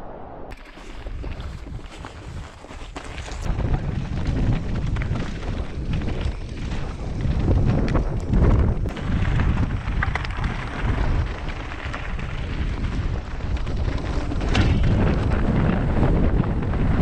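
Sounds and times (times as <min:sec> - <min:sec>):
wind buffeting microphone: 0:00.0 - 0:17.0
bike rattling and clicking: 0:00.5 - 0:17.0
bike tyres rumbling on rocks: 0:00.5 - 0:17.0.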